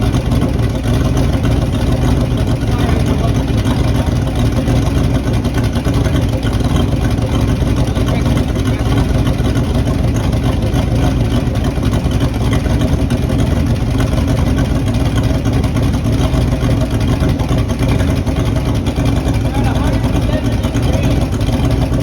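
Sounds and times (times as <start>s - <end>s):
loud choppy engine idling: 0.0s - 22.0s.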